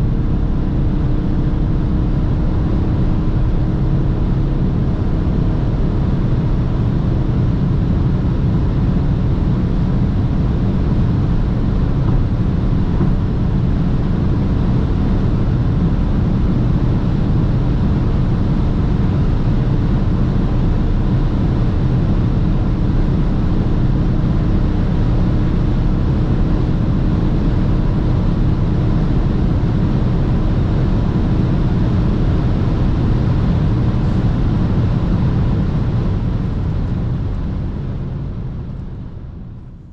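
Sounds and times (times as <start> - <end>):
diesel engine running at speed: 0.0 - 39.9
tyre road and wind noise: 0.0 - 39.9.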